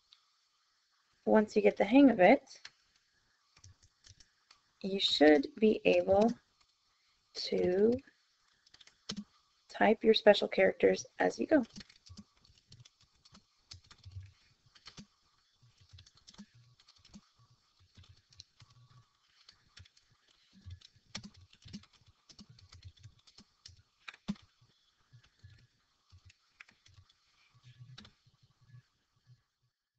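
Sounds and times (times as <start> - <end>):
faint keyboard typing: 2.5 - 9.4, 10.3 - 28.9.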